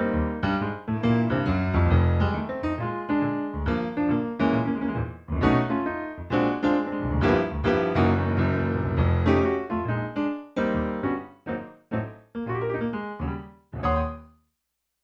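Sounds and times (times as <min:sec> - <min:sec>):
lively piano tune: 0:00.0 - 0:14.3.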